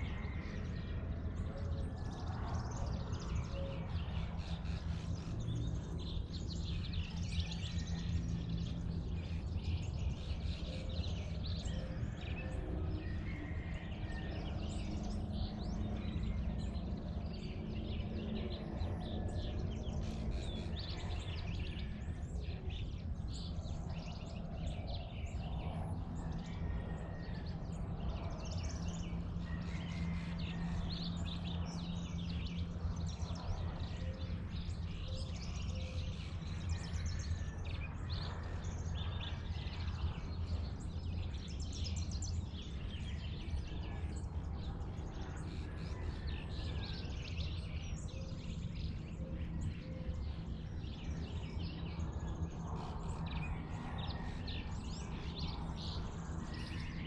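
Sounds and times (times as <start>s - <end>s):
small birds chirping and singing: 0.0s - 57.0s
steady low hum: 0.0s - 57.0s.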